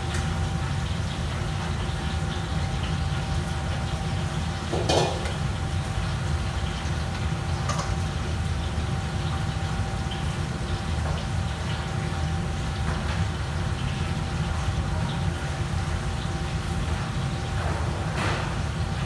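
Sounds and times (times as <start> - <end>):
kitchen equipment rumble: 0.0 - 19.0.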